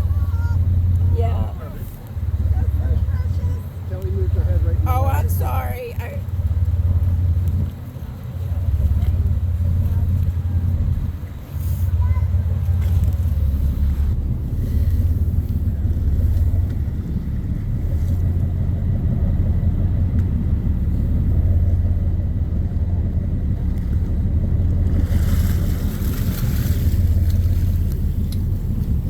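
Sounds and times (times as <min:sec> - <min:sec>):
boat engine droning: 0:00.0 - 0:29.0
water noise: 0:00.0 - 0:29.0
wind: 0:00.0 - 0:29.0.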